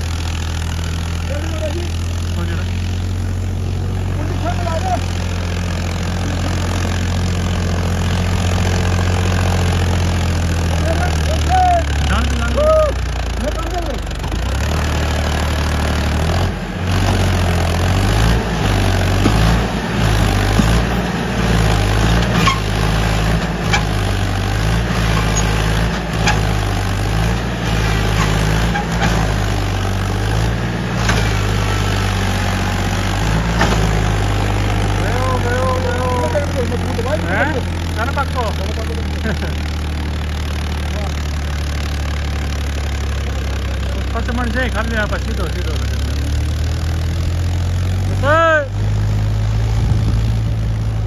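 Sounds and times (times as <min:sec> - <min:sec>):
tractor diesel engine idling: 0:00.0 - 0:51.0.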